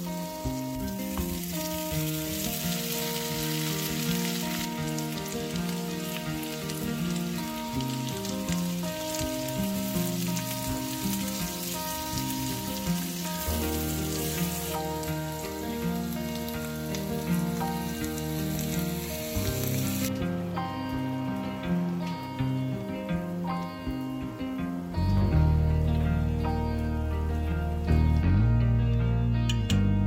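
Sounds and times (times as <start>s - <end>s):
potatoes sizzling in a pan: 0.0s - 28.5s
background music: 0.0s - 30.0s.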